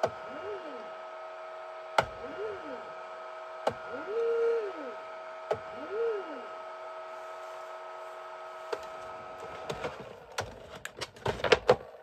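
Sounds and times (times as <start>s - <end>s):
motor whine: 0.0s - 10.6s
steady high hum: 0.0s - 10.6s.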